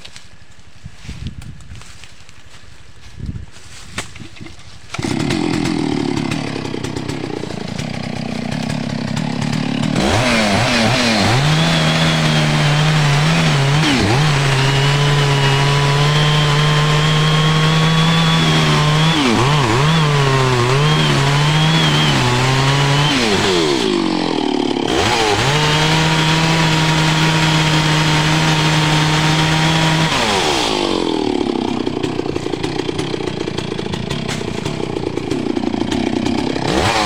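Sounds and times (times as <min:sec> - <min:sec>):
chainsaw cutting into tree: 0:04.0 - 0:37.0
chainsaw starting and idling: 0:04.2 - 0:37.0.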